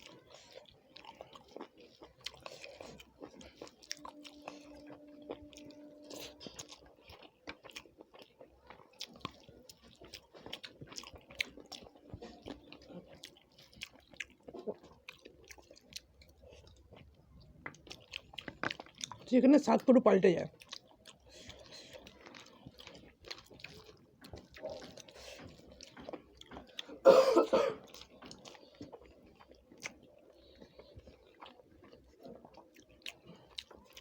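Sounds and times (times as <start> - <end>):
person chewing and lip-smacking: 0.0 - 19.3, 20.5 - 27.0, 27.8 - 34.0.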